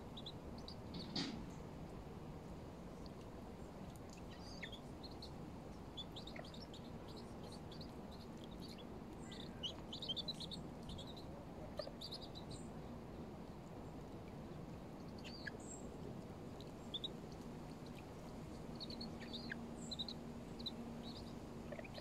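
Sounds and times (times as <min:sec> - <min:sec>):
small birds chirping: 0:00.0 - 0:01.6, 0:02.9 - 0:22.0.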